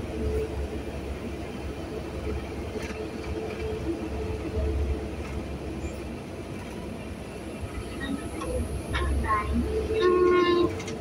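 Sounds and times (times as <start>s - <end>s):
vehicle engine and tyre noise: 0.0s - 11.0s.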